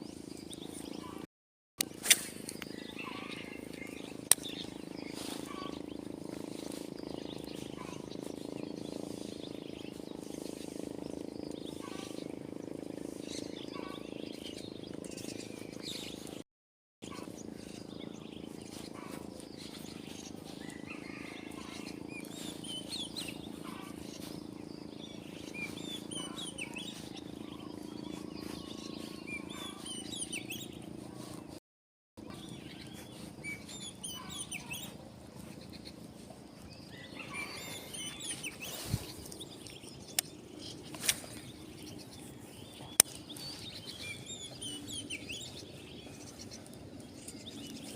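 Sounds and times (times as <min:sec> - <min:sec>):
low background hum: 0:00.0 - 0:16.4, 0:17.0 - 0:31.6, 0:32.2 - 0:47.9
small birds chirping: 0:00.0 - 0:16.4, 0:17.0 - 0:31.6, 0:32.2 - 0:47.9.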